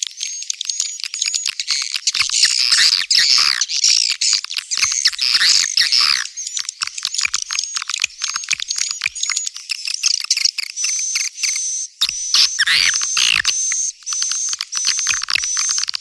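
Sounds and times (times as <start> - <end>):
swiftlets clicking and twittering: 0.2 - 16.0
thin high bird tweets: 0.9 - 16.0.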